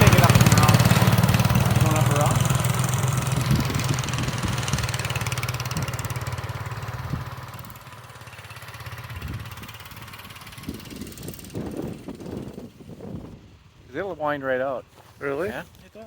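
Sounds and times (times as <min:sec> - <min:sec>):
snowmobile engine running: 0:00.0 - 0:13.1.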